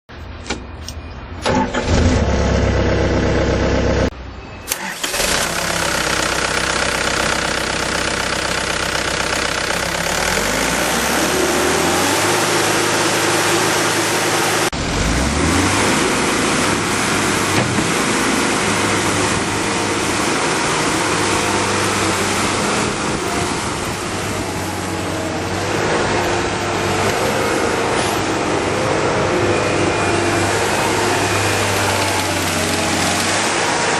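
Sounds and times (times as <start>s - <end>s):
diesel engine cranking: 0.4s - 4.1s, 4.7s - 33.9s
diesel engine running: 1.4s - 4.1s, 4.7s - 33.9s.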